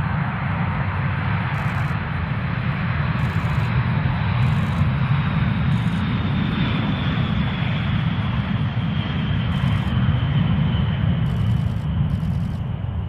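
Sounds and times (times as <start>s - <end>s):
high jet whine: 0.0s - 13.0s
jet engines roaring: 0.0s - 13.0s.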